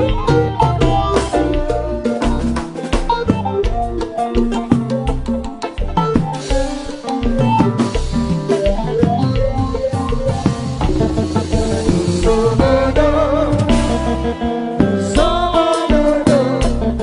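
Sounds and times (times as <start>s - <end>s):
drum kit: 0.0s - 17.0s
live band playing groove: 0.0s - 17.0s.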